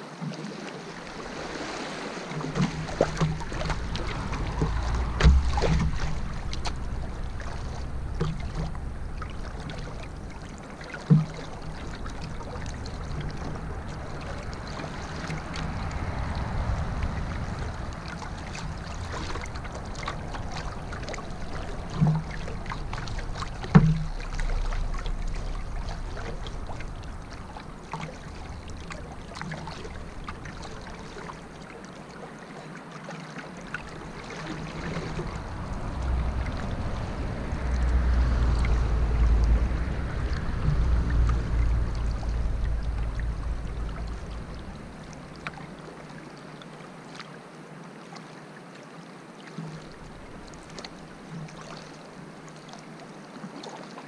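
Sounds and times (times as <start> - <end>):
water washing along a hull: 0.0 - 54.0.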